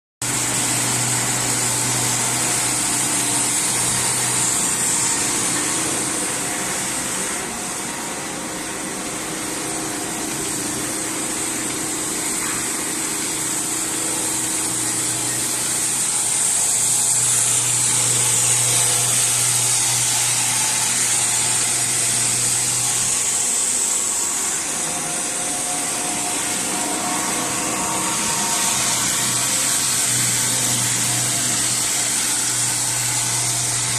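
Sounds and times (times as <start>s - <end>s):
power grinder buffing rubber: 0.2s - 33.9s.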